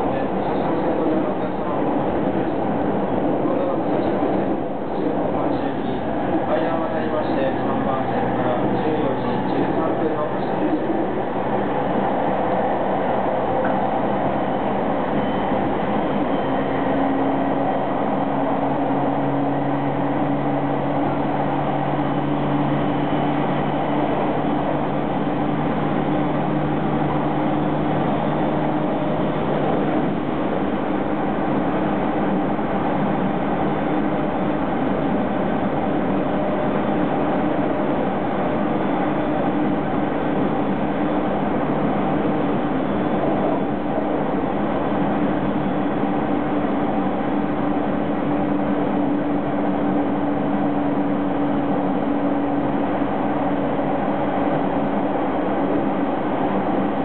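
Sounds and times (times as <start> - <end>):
low even hum: 0.0 - 57.0
train wheels and motors rumble: 0.0 - 57.0.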